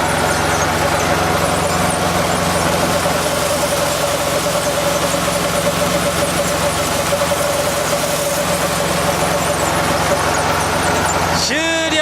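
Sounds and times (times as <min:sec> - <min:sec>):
machine engine humming: 0:00.0 - 0:12.0.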